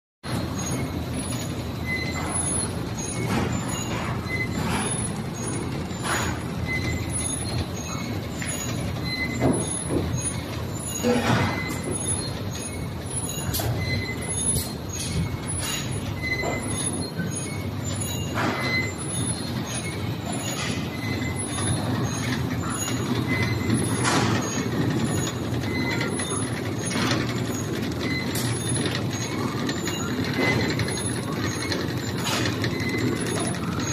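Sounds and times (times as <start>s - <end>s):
machine clatter: 0.3s - 33.9s
short high squeak: 0.3s - 33.9s.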